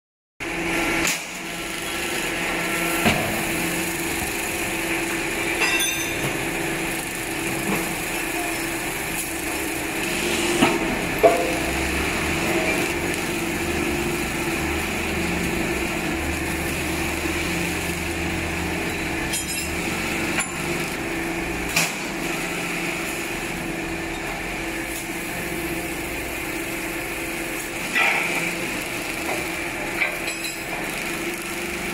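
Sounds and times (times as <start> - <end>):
hydraulic presses humming: 0.4 - 31.9.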